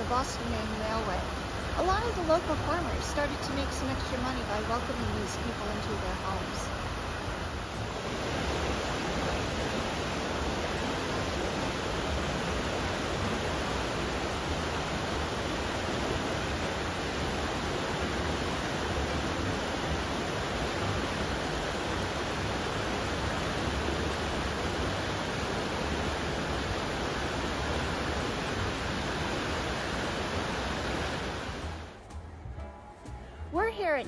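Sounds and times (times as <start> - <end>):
river rushing over rapids: 0.0 - 32.0.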